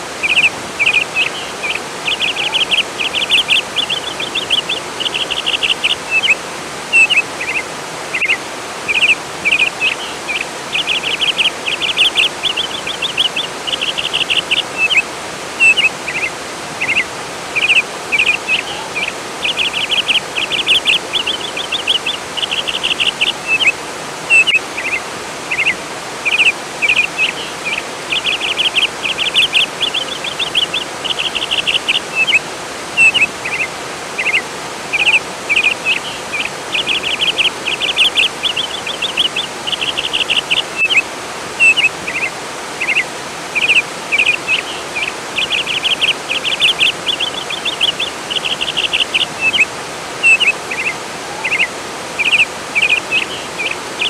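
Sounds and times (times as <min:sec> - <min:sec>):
flowing water rushing: 0:00.0 - 0:54.0
songbirds chirping and trilling: 0:00.0 - 0:54.0.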